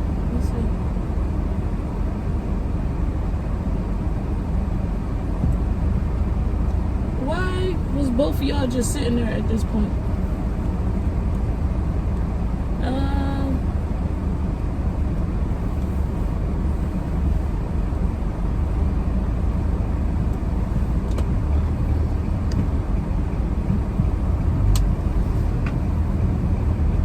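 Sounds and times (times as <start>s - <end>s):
car cabin rumble: 0.0s - 27.0s.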